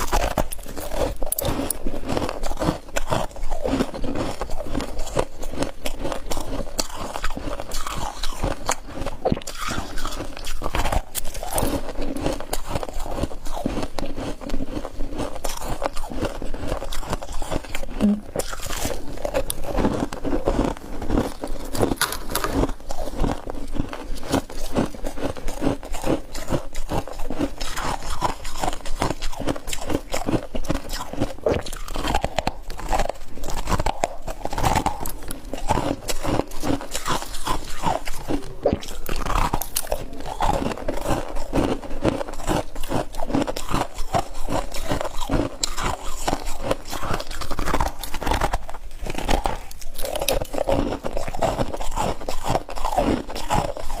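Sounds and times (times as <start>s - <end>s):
person chewing crunchy ice: 0.0s - 54.0s.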